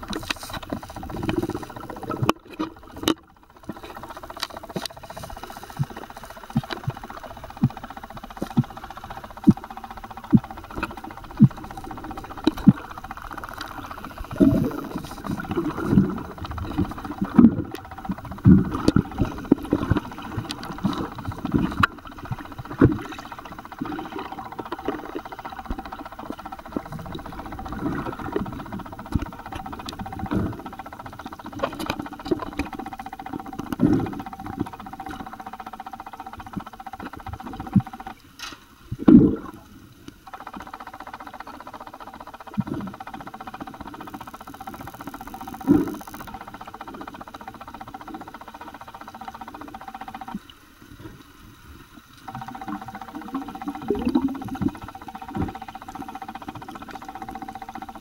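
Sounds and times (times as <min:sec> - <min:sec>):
faint steady hum: 0:00.0 - 0:58.0
underwater bubbling: 0:00.0 - 0:58.0.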